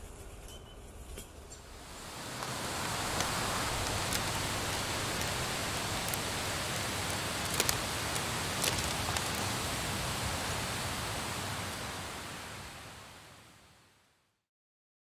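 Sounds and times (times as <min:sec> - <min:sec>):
steady rushing hiss: 0:00.0 - 0:14.2.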